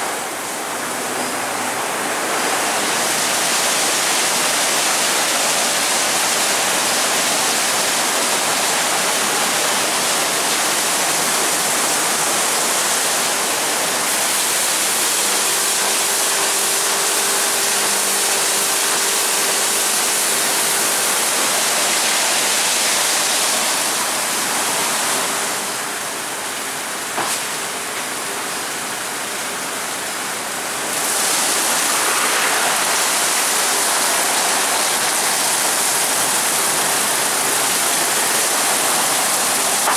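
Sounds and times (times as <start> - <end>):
car wash water spray and brushes: 0.0 - 39.9.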